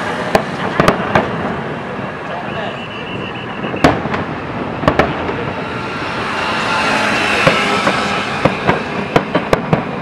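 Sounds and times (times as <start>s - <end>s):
fireworks crackle and hiss: 0.0s - 5.8s, 7.0s - 10.0s
fireworks bangs: 0.0s - 10.0s.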